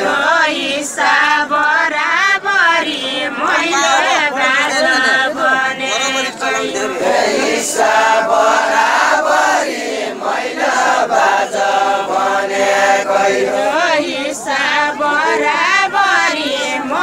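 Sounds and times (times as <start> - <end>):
men singing together: 0.0 - 17.0.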